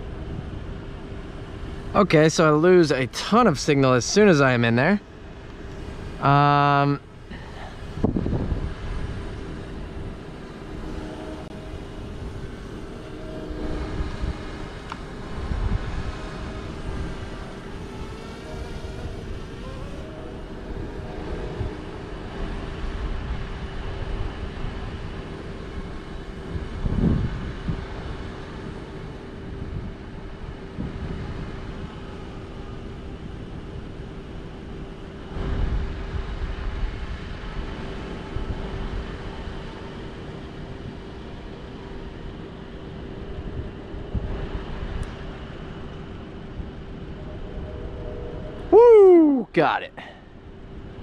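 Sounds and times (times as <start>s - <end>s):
distant drone hum: 0.0s - 51.0s
outdoor rumble: 0.0s - 51.0s.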